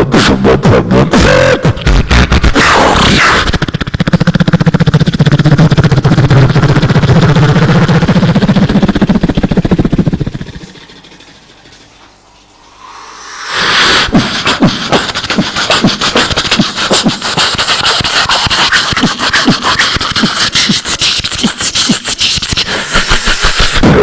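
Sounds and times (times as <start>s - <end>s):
person beatboxing into microphone: 0.0s - 11.2s, 13.4s - 24.0s.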